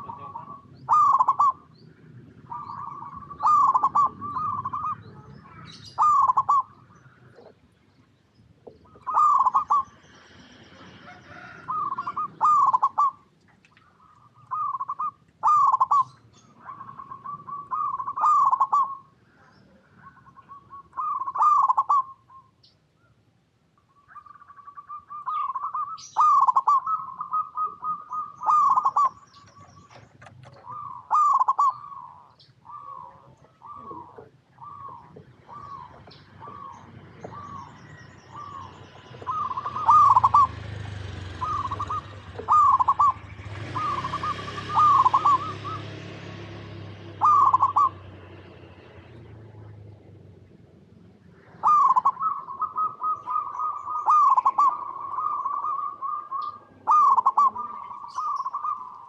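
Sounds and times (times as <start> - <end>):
dove cooing: 0.0 - 7.8, 8.5 - 23.2, 24.0 - 50.1, 51.2 - 59.0.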